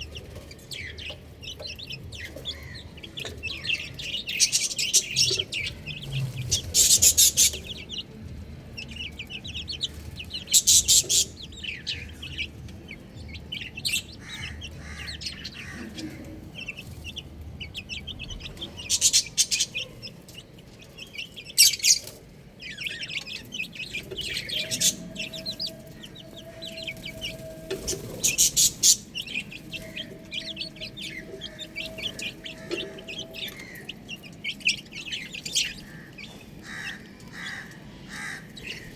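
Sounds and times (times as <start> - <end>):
chicks chirping: 0.0 - 38.9.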